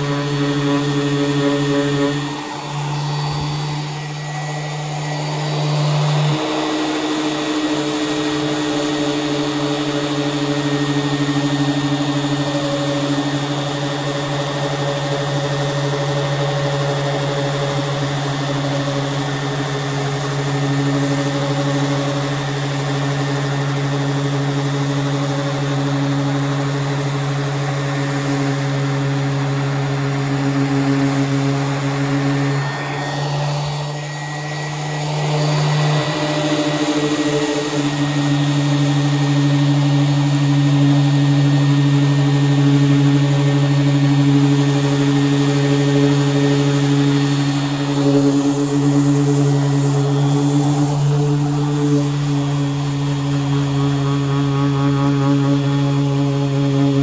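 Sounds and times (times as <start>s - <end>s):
power sander grinding metal: 0.0s - 57.0s.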